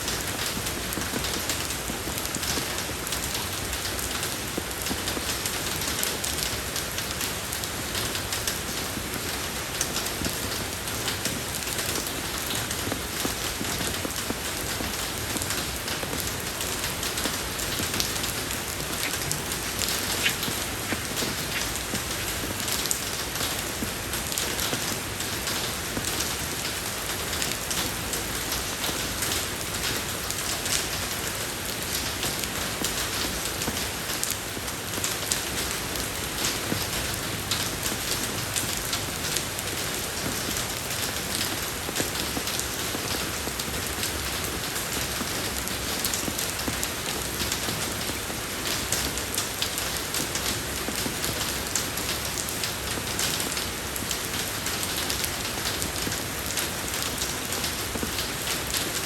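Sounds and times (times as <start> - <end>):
rain falling on road: 0.0 - 59.0.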